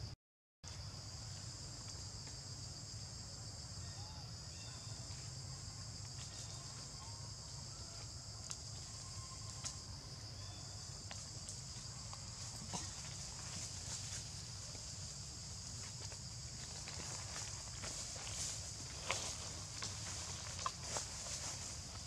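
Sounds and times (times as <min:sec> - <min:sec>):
insects chorus: 0:00.7 - 0:22.0.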